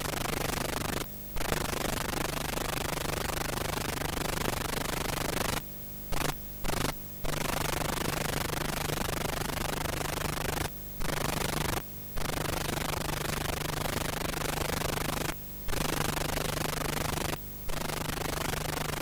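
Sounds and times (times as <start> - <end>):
videotape hiss and static: 0.0 - 19.0.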